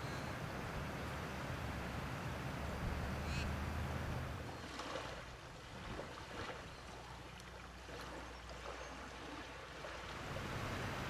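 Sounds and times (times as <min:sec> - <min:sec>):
soft hiss of water and breeze: 0:00.0 - 0:11.0.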